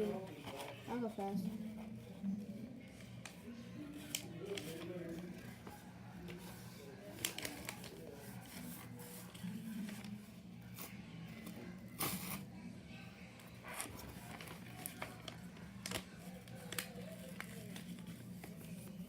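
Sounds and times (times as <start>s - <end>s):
paper crinkling and rustling: 0.0s - 2.2s, 2.8s - 11.5s, 13.6s - 19.0s.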